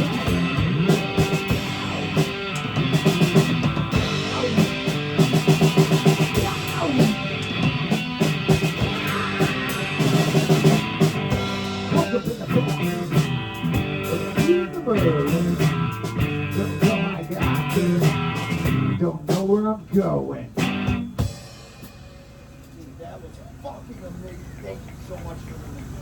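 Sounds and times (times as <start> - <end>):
electric guitar: 0.0 - 22.0
live rock band playing: 0.0 - 23.0
drum kit: 0.0 - 23.6.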